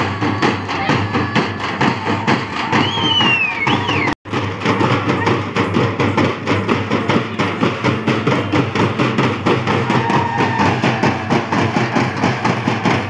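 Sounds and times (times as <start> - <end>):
frame drums beaten fast: 0.0 - 13.0.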